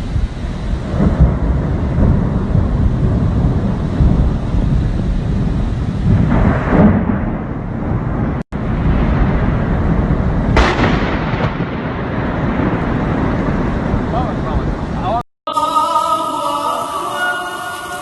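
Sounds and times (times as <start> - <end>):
rain: 0.0 - 15.2
wind buffeting microphone: 0.0 - 15.2.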